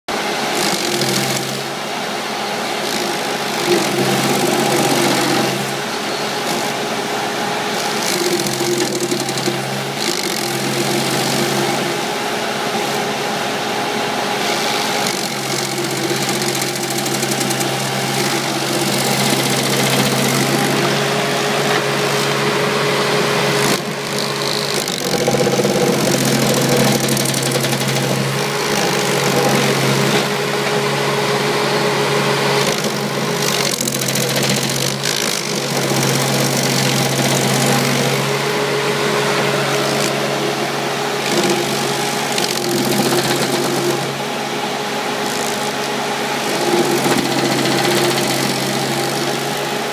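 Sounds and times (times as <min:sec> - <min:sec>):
skid steer engine running: 0:00.1 - 0:49.9
stump grinder grinding wood: 0:00.1 - 0:49.9.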